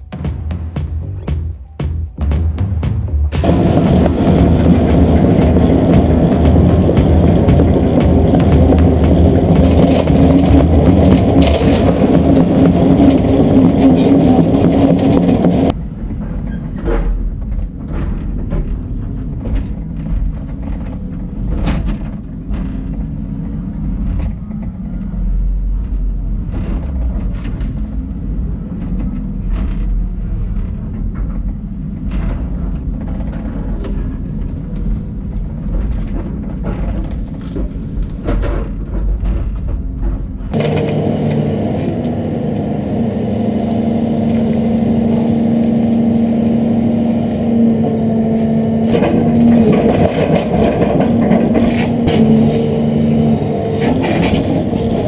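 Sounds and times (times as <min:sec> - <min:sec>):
engine drone with hum: 0:00.0 - 0:55.0
excavator engine rumbling: 0:00.0 - 0:55.0.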